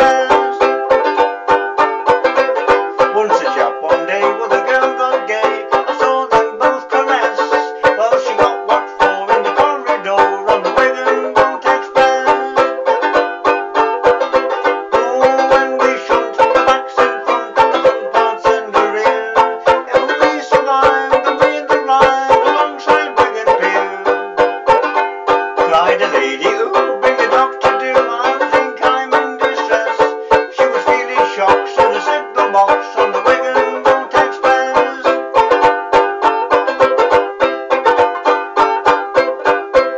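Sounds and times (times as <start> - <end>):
banjo ukulele strumming: 0.0 - 39.9.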